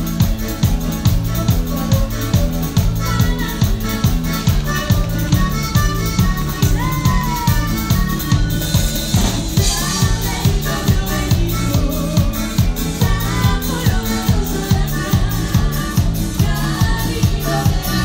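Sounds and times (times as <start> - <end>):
drum kit beat: 0.0 - 18.0
electric guitars: 0.0 - 18.0
person singing: 0.0 - 18.0.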